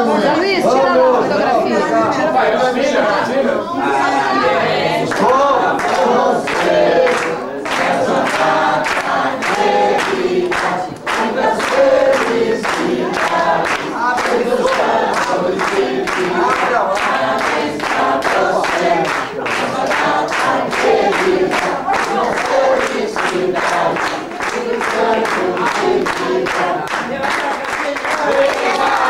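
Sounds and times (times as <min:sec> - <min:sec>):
group singing a birthday song: 0:00.0 - 0:29.0
hands clapping in time: 0:05.1 - 0:29.0.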